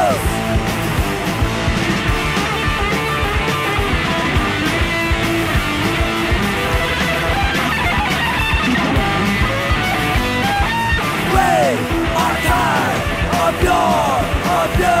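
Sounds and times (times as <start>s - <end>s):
punk rock music with guitar: 0.0s - 15.0s.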